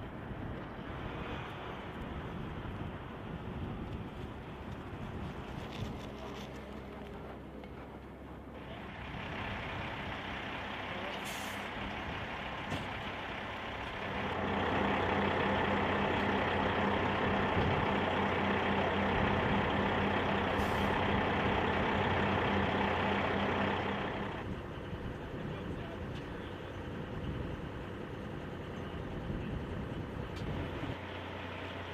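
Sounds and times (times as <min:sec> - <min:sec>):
diesel truck engine running: 0:00.1 - 0:31.9.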